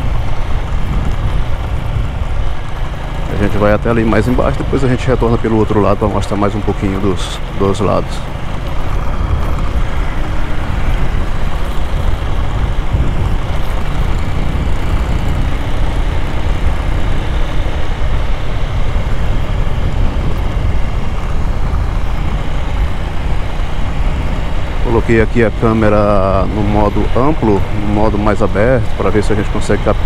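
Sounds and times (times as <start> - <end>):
motorcycle engine: 0.0 - 30.0
road noise: 0.0 - 30.0
wind noise: 0.0 - 30.0.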